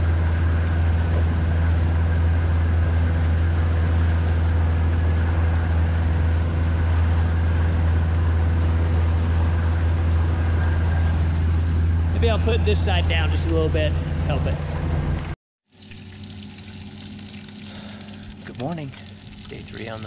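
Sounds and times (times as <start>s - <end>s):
outboard motor droning: 0.0s - 20.0s.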